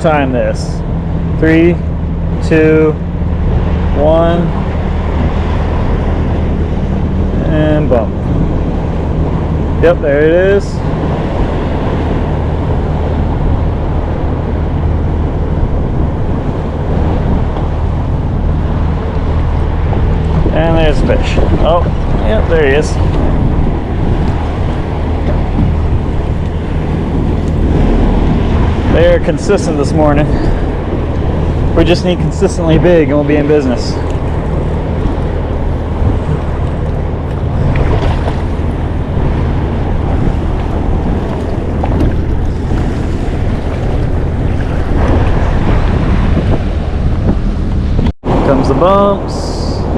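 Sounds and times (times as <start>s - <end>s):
constant low hum: 0.0s - 49.9s
waves washing around boat: 0.0s - 49.9s
wind on microphone: 0.0s - 49.9s.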